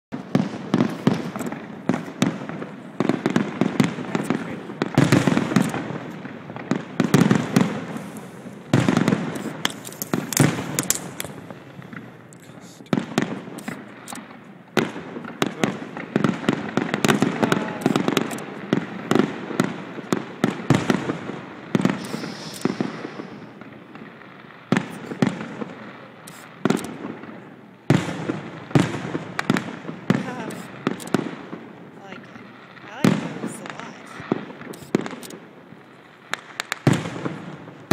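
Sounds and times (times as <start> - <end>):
fireworks bursting: 0.1 - 37.9.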